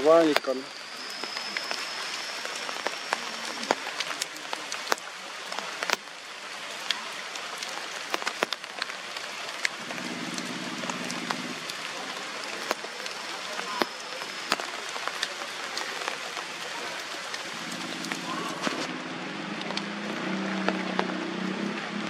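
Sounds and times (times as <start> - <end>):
rain on foliage: 0.0 - 22.0
sharp raindrop taps: 0.0 - 22.0.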